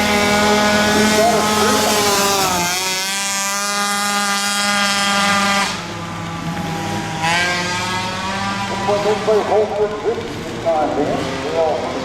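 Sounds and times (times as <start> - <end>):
racing engines at high revs: 0.0 - 12.0.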